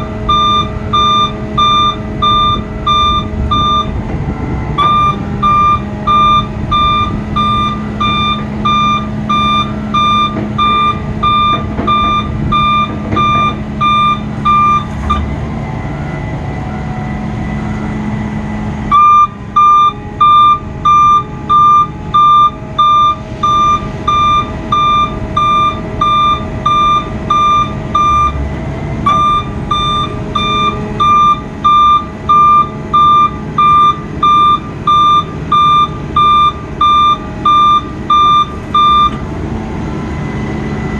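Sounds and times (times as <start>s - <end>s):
truck backup alarm beeping: 0.0s - 15.4s, 18.9s - 28.4s, 29.0s - 39.2s
truck engine running: 0.0s - 40.9s.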